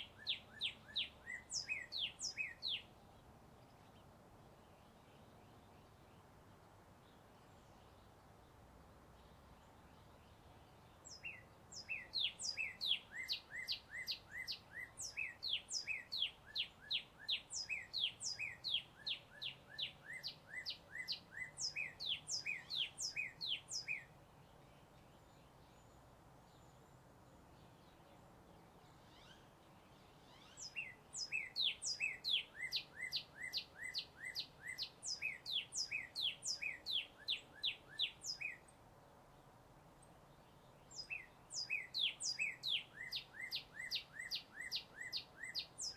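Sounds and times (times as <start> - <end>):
songbird chirping: 0.0 - 45.9.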